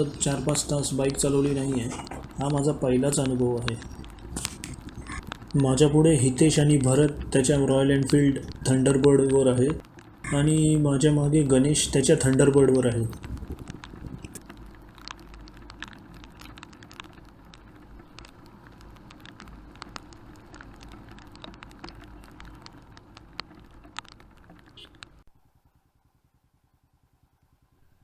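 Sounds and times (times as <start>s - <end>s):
raindrops ticking on camera housing: 0.0s - 25.3s.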